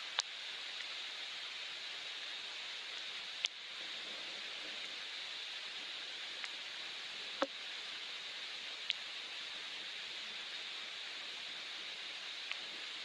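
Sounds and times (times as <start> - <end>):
soft rain falling: 0.0 - 13.0.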